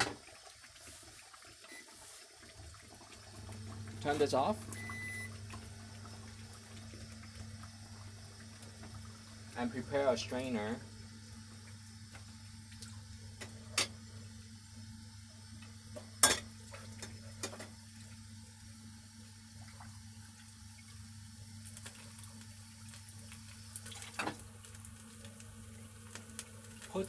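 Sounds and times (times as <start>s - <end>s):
low hum with light hiss: 0.0s - 27.0s.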